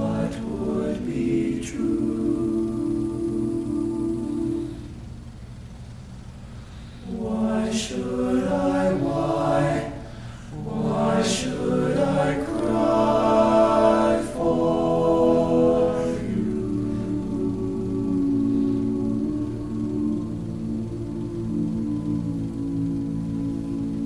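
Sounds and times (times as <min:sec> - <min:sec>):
male choir singing a cappella: 0:00.0 - 0:05.1, 0:07.0 - 0:24.0.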